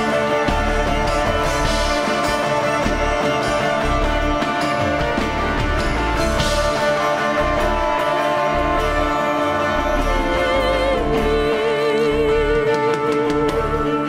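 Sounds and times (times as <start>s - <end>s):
electric guitar: 0.0s - 14.0s
wavering held lead note: 0.0s - 14.0s
worship band music: 0.0s - 14.0s.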